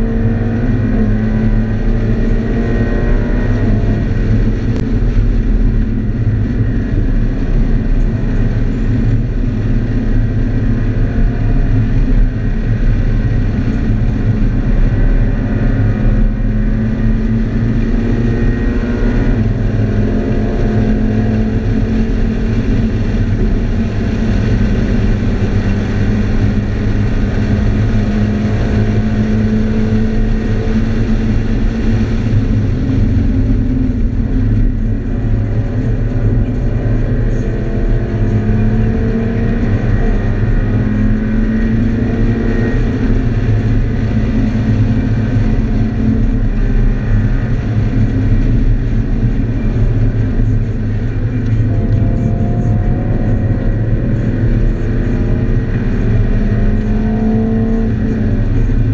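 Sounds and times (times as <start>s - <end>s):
car engine accelerating: 0.0s - 58.9s
road and tyre noise: 0.0s - 58.9s.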